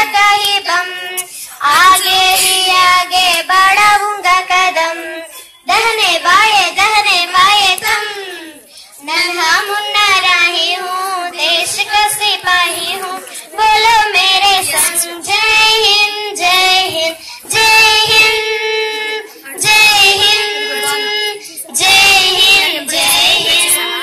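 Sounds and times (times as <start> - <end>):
girl singing unaccompanied: 0.0 - 24.0.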